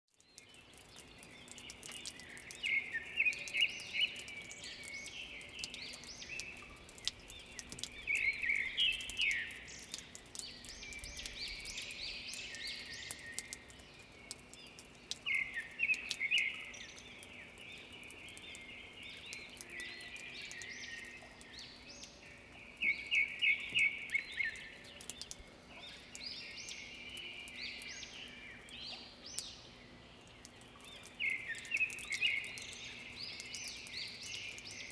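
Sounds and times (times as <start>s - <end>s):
birds chirping: 0.1s - 34.9s
dripping water ticks: 0.1s - 34.9s.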